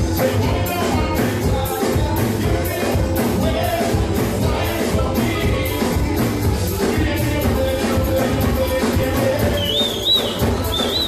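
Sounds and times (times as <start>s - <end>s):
drum kit: 0.0s - 11.0s
person singing: 0.0s - 11.0s.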